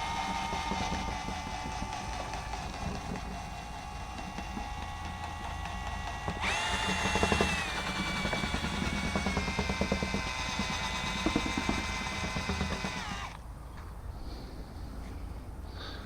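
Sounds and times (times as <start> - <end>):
electric motor whining: 0.0 - 13.4.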